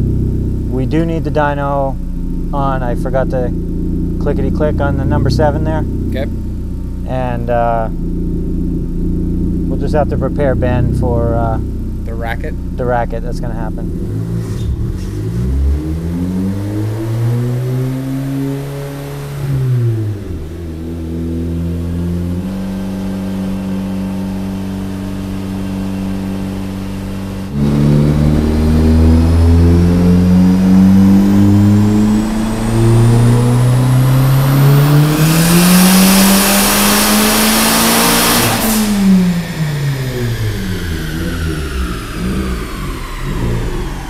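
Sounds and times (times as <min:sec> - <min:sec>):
car engine revving: 0:00.0 - 0:44.0
high turbo whine: 0:00.0 - 0:44.0.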